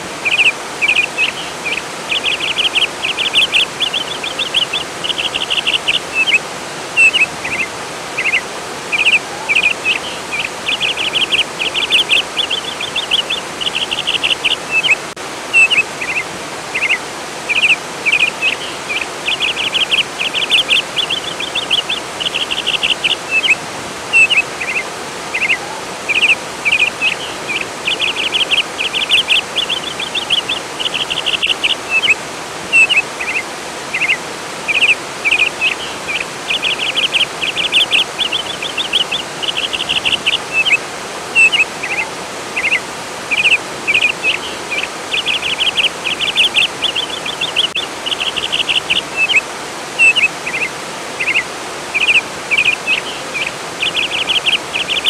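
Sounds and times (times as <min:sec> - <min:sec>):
flowing water: 0:00.0 - 0:55.0
songbird trilling and chirping: 0:00.2 - 0:06.4, 0:07.0 - 0:40.8, 0:41.4 - 0:49.4, 0:50.0 - 0:55.0.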